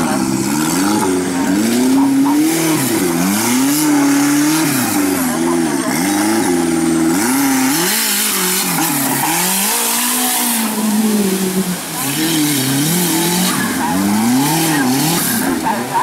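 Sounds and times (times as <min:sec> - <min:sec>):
buggy engine revving: 0:00.0 - 0:16.0
tyres throwing mud and sand: 0:00.0 - 0:16.0.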